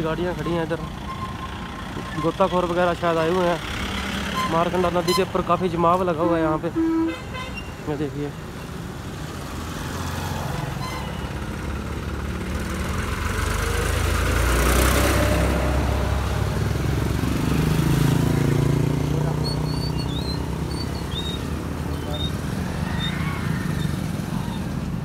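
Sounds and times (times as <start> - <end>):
motorcycle engines passing: 0.0 - 25.0.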